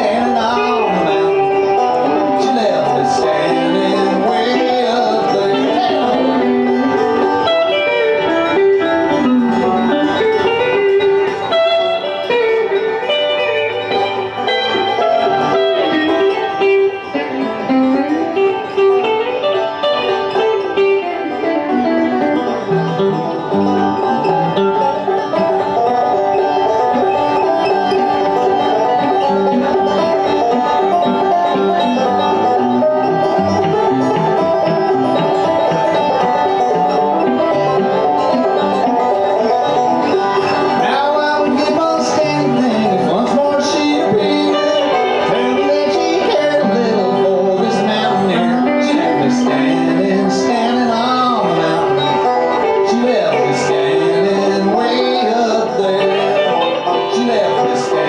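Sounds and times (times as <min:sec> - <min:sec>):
bluegrass banjo and guitar: 0:00.0 - 0:58.0.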